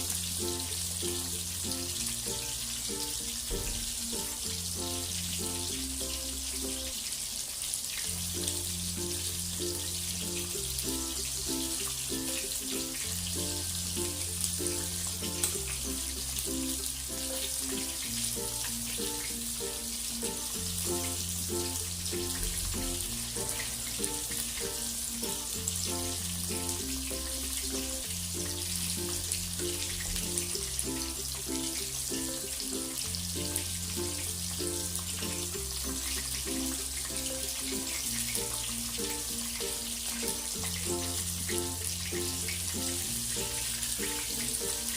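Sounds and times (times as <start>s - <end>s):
background music with beat: 0.0s - 6.8s, 8.1s - 44.9s
prawns deep-frying in oil: 0.0s - 44.9s.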